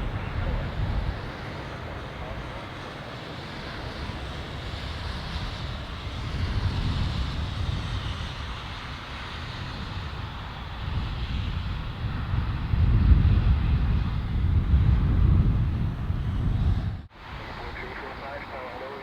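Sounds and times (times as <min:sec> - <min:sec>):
wind buffeting microphone: 0:00.0 - 0:18.8
jet engines rushing: 0:00.0 - 0:19.0.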